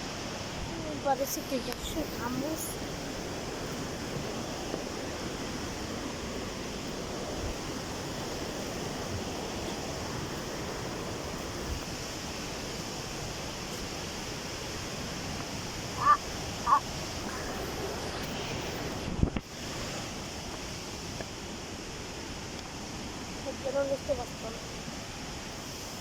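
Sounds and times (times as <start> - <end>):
river and waterfalls rushing: 0.0 - 26.0.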